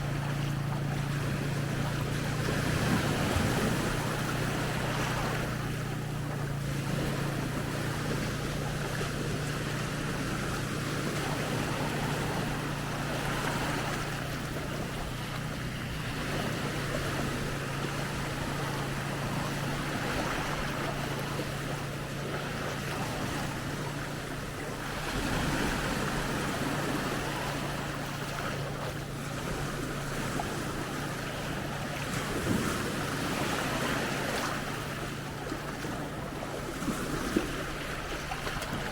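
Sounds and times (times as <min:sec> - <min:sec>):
small waves on sandy beach: 0:00.0 - 0:38.9
steady low hum: 0:00.0 - 0:38.9
wind buffeting microphone: 0:00.0 - 0:38.9.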